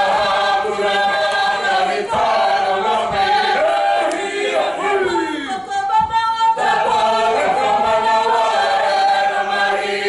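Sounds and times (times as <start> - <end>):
group singing unaccompanied: 0.0 - 10.0.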